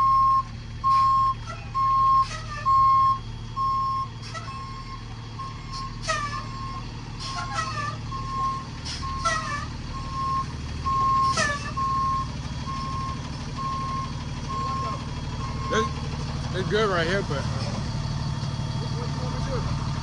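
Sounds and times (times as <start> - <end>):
truck engine humming: 0.0 - 20.0
truck reverse alarm beeping: 0.0 - 20.0.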